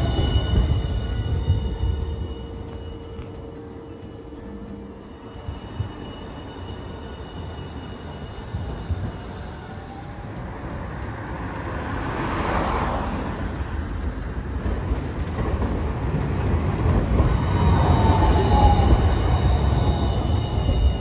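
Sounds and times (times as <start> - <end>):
tram rumbling past: 0.0 - 21.0.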